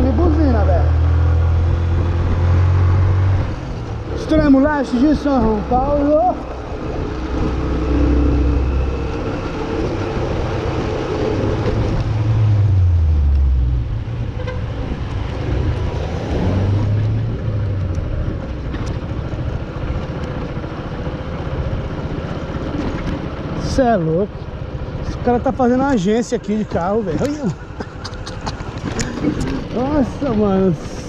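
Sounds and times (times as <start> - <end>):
road noise: 0.0 - 31.0
vehicle engines running: 0.0 - 31.0.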